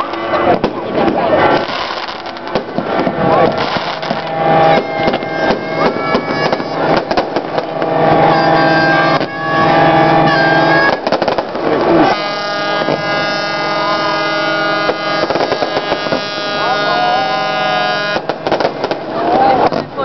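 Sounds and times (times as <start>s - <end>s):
crowd voices: 0.0s - 20.0s
fireworks bangs and crackles: 0.0s - 20.0s
sustained tones: 0.0s - 20.0s.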